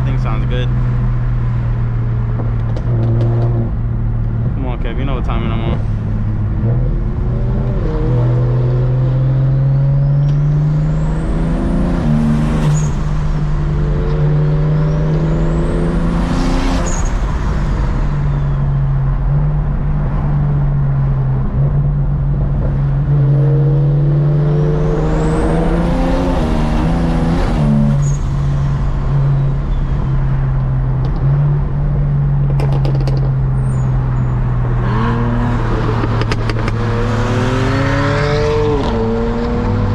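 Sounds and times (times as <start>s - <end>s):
car engine accelerating hard: 2.6s - 39.9s.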